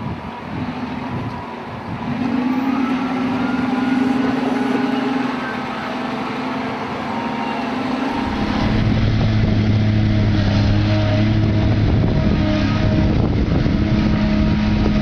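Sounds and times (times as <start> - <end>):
heavy machinery engines running: 0.0 - 15.0.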